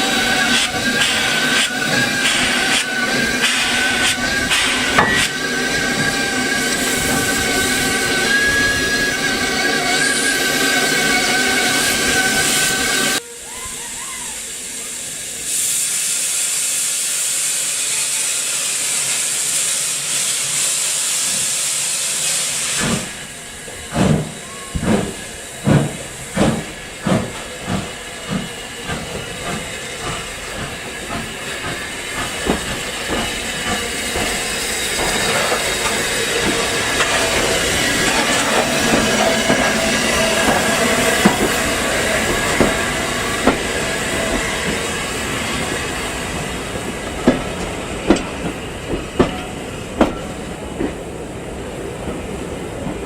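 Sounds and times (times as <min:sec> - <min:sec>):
steam locomotive blowing off steam: 0:00.0 - 0:51.5.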